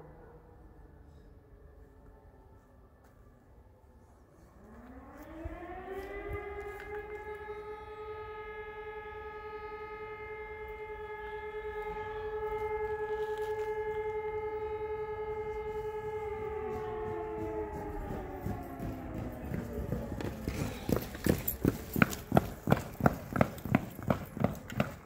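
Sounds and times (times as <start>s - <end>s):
alarm siren wailing: 0.0s - 25.0s.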